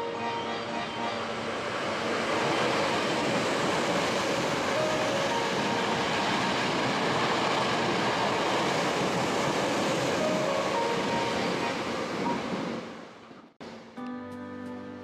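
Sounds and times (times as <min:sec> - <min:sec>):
train wheels on rail: 0:00.1 - 0:13.9.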